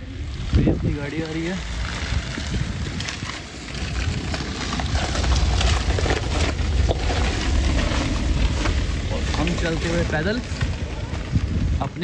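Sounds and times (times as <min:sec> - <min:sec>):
tyres crunching over stones: 0:00.2 - 0:12.0.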